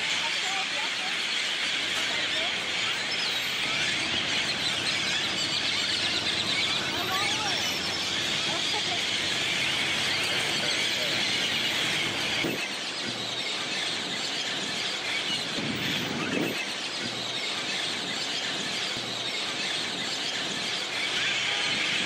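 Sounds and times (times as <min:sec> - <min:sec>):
large flock of birds calling: 0:00.0 - 0:22.0.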